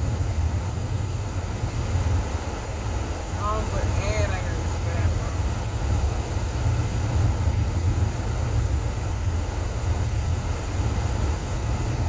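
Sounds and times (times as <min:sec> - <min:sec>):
car driving road noise: 0:00.0 - 0:12.0.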